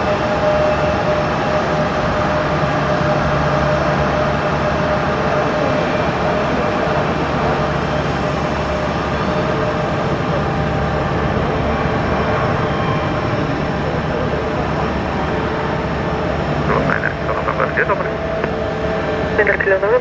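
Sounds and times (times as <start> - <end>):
jet engines rushing with whine: 0.0 - 20.0.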